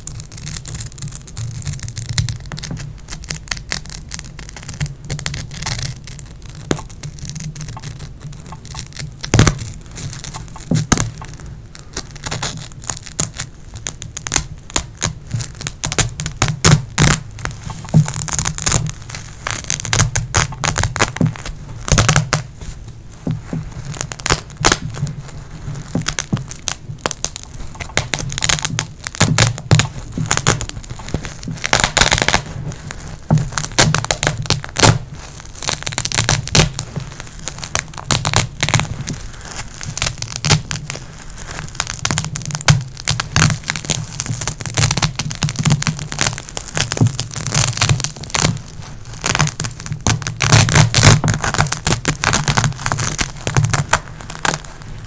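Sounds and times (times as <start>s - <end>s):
fingernails scratching velcro: 0.0s - 54.9s.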